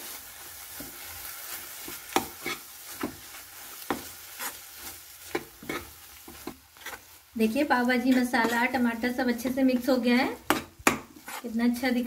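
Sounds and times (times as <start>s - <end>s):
spatula scraping a pan: 0.0s - 12.0s
vegetables sizzling: 0.0s - 12.0s.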